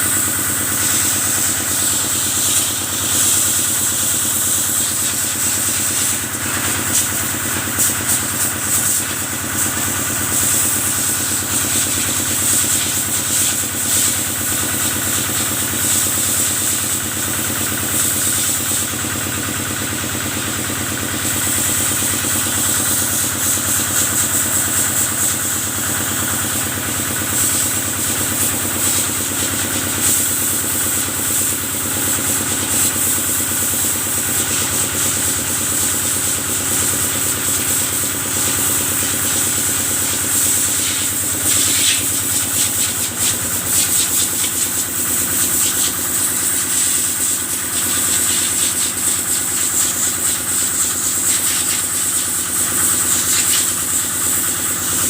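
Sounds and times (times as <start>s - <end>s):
diesel engine running: 0.0s - 55.0s
water jet hissing: 0.0s - 55.0s.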